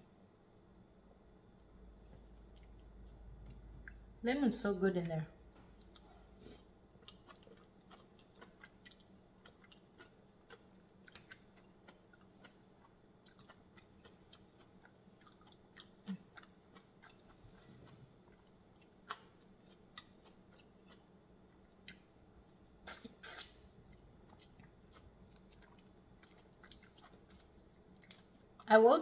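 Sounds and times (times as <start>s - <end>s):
soft chewing: 0.7s - 4.2s, 5.4s - 28.7s.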